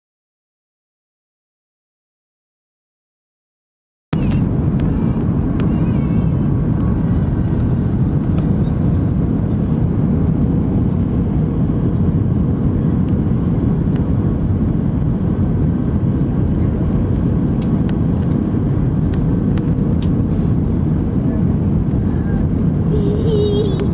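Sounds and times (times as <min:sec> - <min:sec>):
jet cabin rumble: 0:04.1 - 0:23.9.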